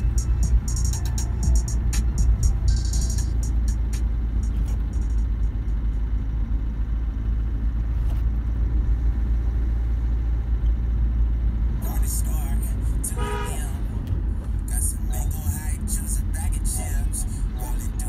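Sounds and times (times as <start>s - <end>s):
vehicle driving rumble: 0.0s - 18.0s.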